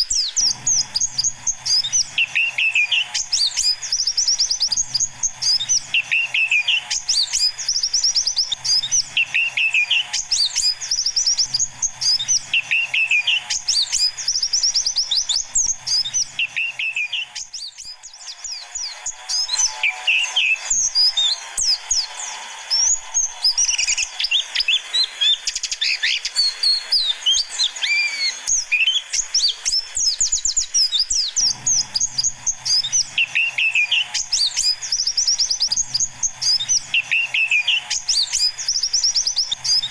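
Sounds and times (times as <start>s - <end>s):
birds twittering song: 0.0s - 39.9s.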